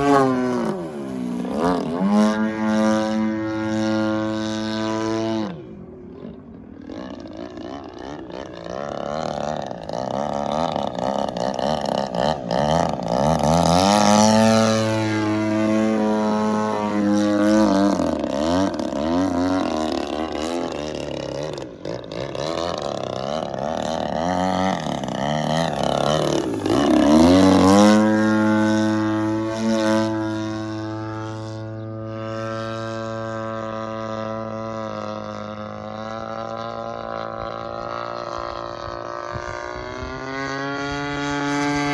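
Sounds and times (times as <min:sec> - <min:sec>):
model plane engine: 0:00.0 - 0:41.9.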